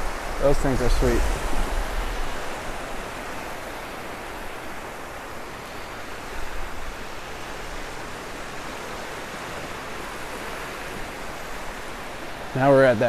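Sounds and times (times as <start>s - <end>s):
ocean surf on a beach: 0.0s - 13.0s.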